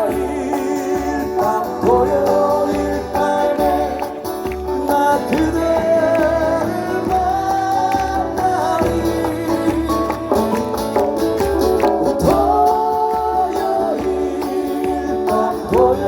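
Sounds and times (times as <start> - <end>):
acoustic guitar: 0.0 - 16.0
people singing: 0.0 - 16.0.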